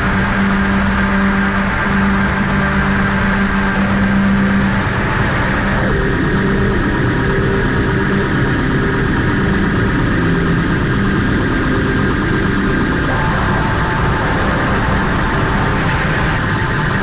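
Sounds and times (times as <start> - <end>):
dense rumbling noise drone: 0.0 - 17.0.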